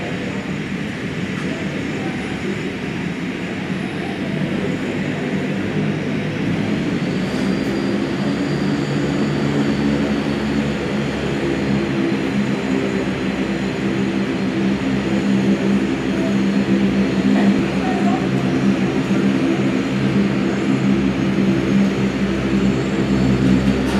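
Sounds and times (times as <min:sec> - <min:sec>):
low propeller drone: 0:00.0 - 0:23.9.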